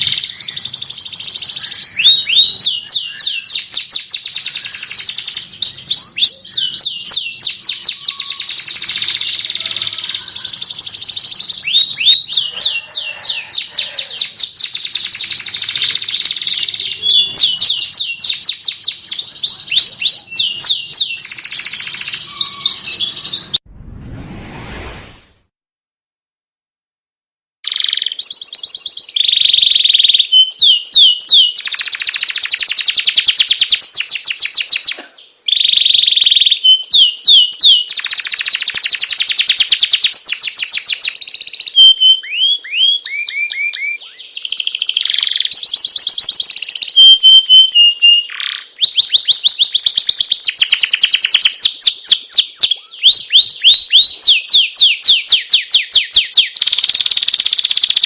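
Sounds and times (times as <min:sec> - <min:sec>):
canary song with rolling trills: 0:00.0 - 0:23.6, 0:27.6 - 0:58.0.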